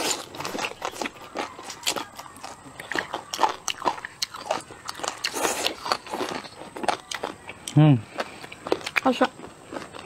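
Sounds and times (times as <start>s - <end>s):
crunchy chewing clicks: 0.0s - 10.0s.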